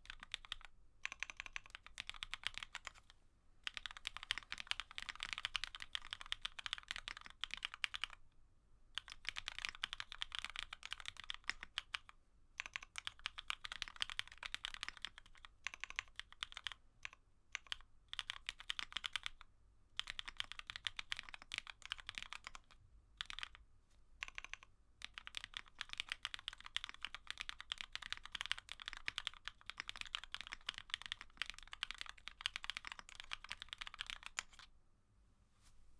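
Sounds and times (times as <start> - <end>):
mechanical keyboard typing: 0.0 - 8.2, 9.0 - 19.4, 20.0 - 23.6, 24.2 - 34.7.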